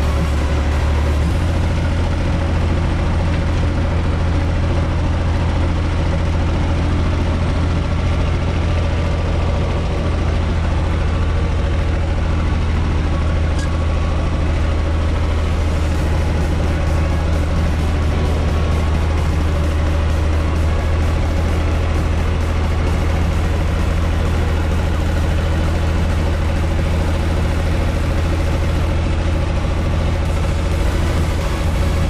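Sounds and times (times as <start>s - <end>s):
diesel tractor engine droning: 0.0s - 32.0s.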